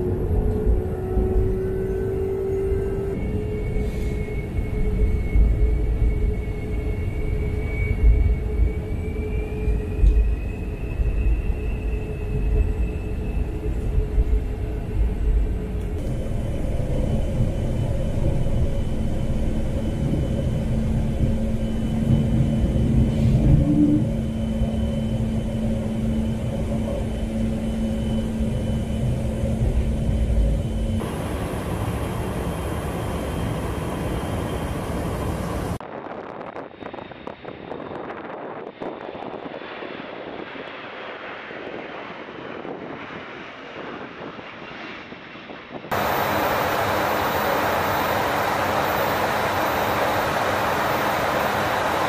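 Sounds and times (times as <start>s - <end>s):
jet engine rumble in cabin: 0.0s - 35.8s, 45.6s - 52.0s.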